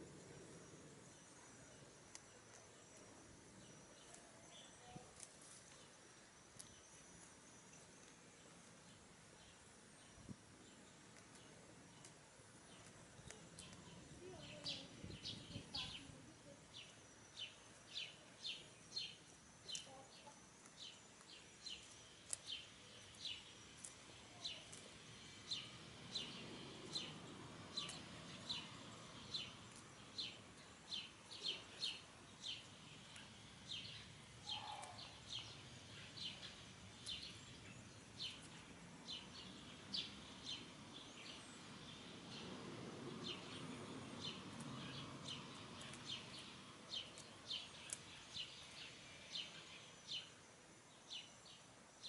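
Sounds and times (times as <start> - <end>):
small bird chirping: 0.0 - 52.0.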